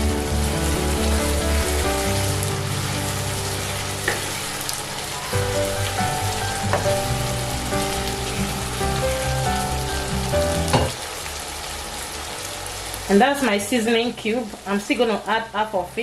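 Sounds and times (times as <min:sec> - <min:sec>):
food sizzling in hot oil: 0:00.0 - 0:16.0
soft background music: 0:00.0 - 0:16.0.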